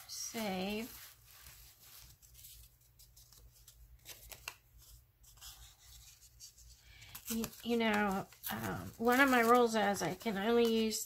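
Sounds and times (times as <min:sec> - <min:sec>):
paper rustling: 0:00.1 - 0:11.0.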